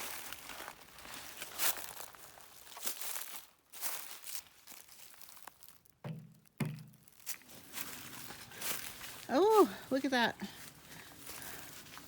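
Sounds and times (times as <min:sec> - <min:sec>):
footsteps crunching on ground: 0:00.0 - 0:12.0.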